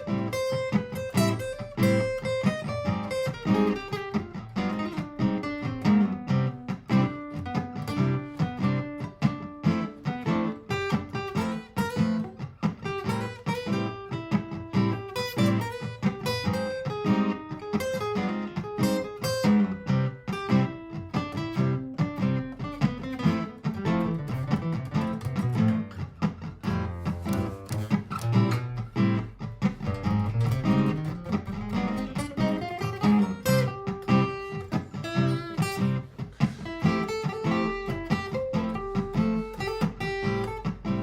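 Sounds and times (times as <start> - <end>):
acoustic guitar plucked and strummed: 0.0 - 41.0.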